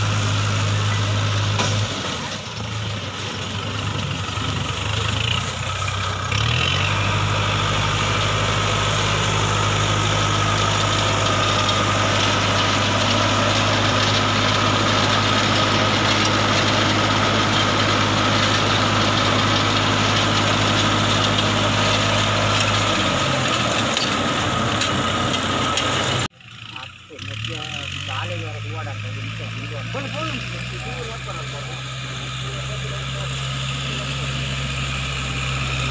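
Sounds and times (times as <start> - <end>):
engine running under load: 0.0 - 35.9.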